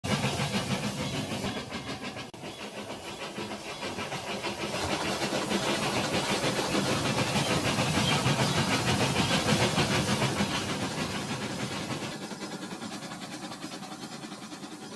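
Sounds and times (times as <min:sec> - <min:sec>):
steam locomotive chuffing: 0:00.0 - 0:14.9.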